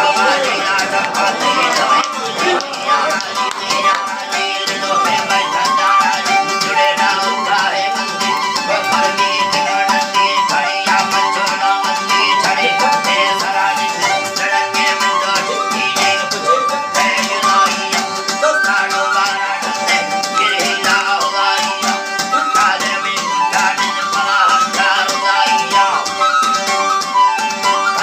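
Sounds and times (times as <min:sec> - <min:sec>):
folk music melody: 0:00.0 - 0:28.0.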